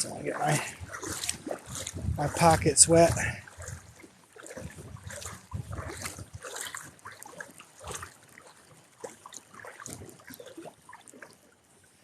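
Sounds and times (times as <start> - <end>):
water splashing around wading legs: 0.0 - 12.0.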